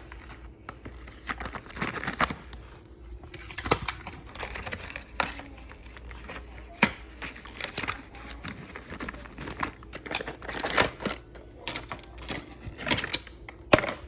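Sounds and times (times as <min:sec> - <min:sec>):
packaging rustling and clicking: 0:00.0 - 0:13.9.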